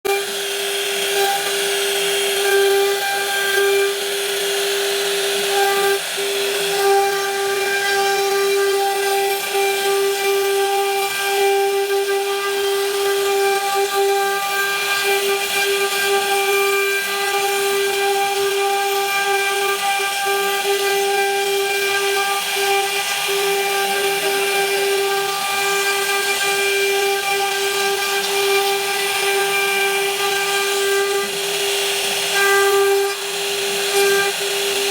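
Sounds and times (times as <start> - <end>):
router spindle cutting wood: 0.0 - 34.9.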